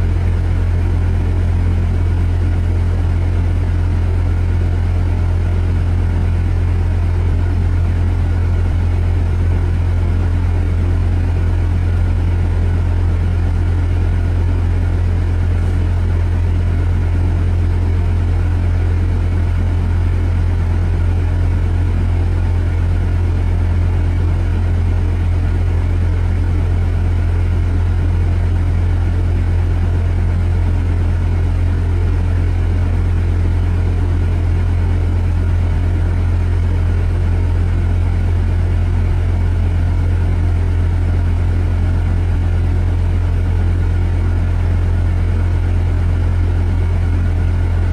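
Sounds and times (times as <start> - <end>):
car engine rumble: 0.0 - 47.9.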